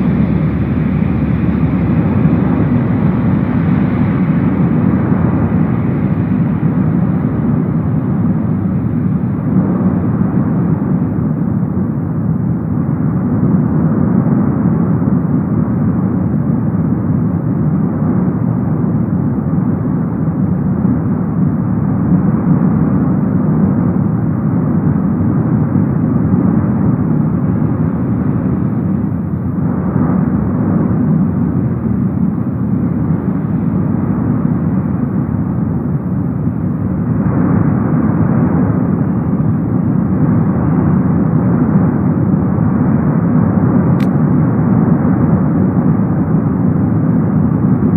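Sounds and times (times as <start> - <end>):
lava fountain rushing roar: 0.0 - 47.9.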